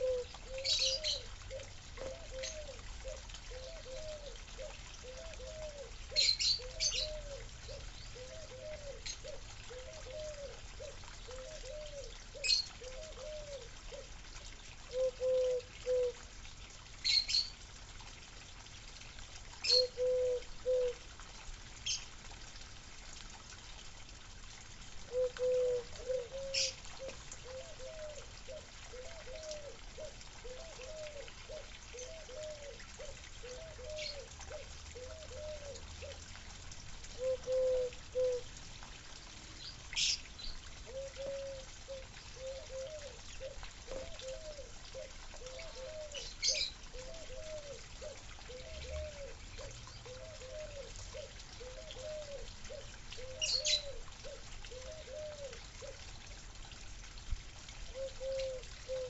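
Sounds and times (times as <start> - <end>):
water trickling and gurgling: 0.0 - 59.0.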